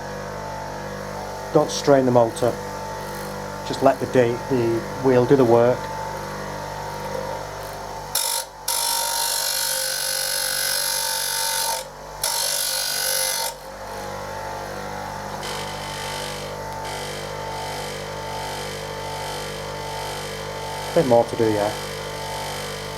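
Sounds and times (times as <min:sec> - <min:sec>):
grinder motor humming: 0:00.0 - 0:22.9.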